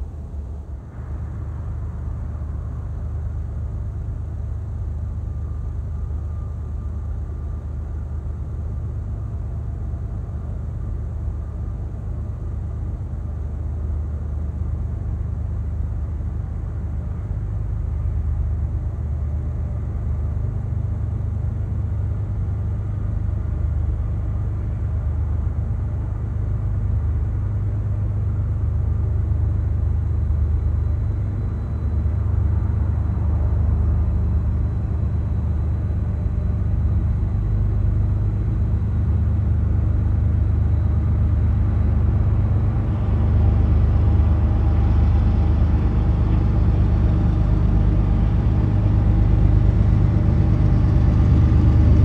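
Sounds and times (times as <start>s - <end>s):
locomotive engine drone: 0.0s - 52.0s.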